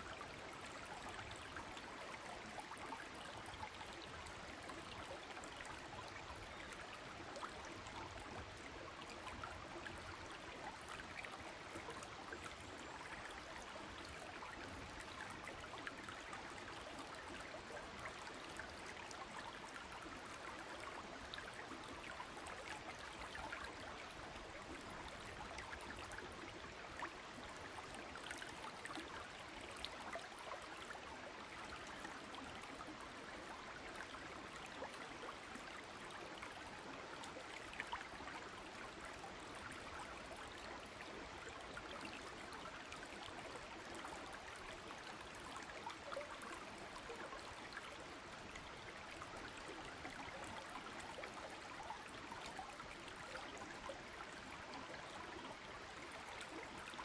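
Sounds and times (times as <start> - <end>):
stream flowing over rocks: 0.1 - 57.0.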